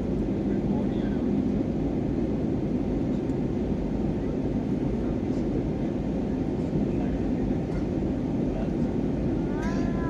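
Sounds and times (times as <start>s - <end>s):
jet engine cabin rumble: 0.0s - 10.0s.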